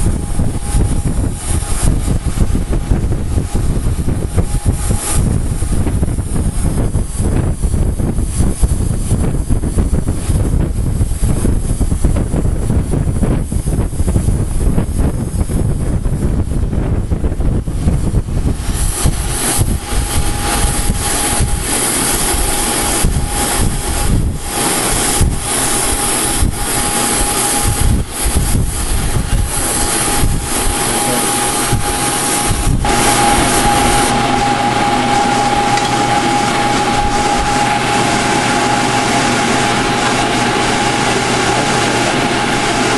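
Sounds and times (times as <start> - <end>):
torch flame hissing: 0.0 - 42.9.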